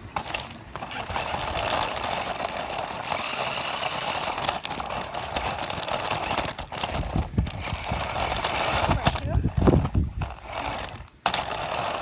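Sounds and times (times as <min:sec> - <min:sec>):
toy car motor whirring: 0:00.0 - 0:12.0.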